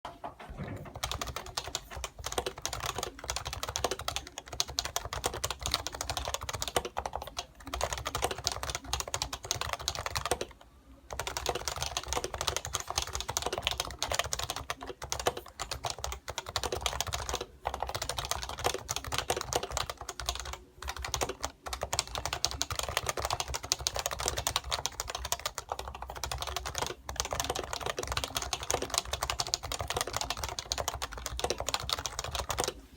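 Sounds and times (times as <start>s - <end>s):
fast keyboard typing: 0.5s - 32.8s.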